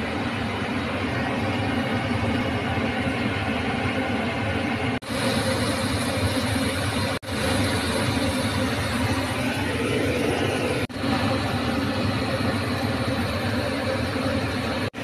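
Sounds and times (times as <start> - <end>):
mechanical drone with low hum: 0.0 - 15.0.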